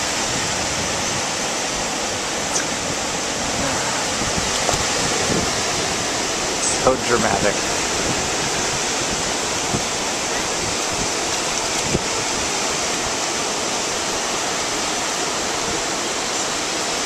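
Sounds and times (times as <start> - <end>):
ocean surf washing in: 0.0 - 17.0
wind: 0.0 - 17.0.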